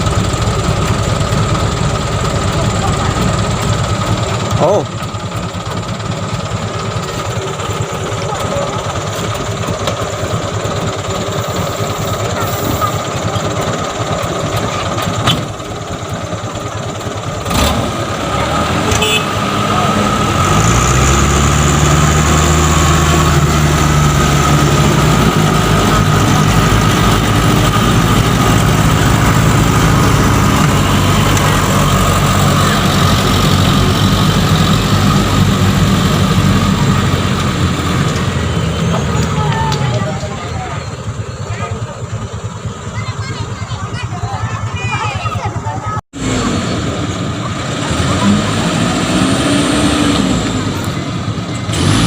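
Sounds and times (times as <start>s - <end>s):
truck engine revving: 0.0s - 52.0s.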